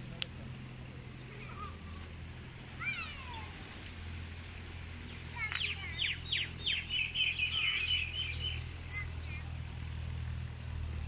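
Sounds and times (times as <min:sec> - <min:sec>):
bird singing: 0:00.0 - 0:09.9
steady low hum: 0:00.0 - 0:11.0.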